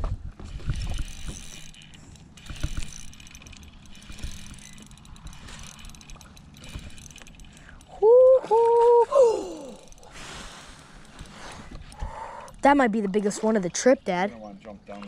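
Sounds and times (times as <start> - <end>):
fishing reel gears whirring: 0.4 - 12.9.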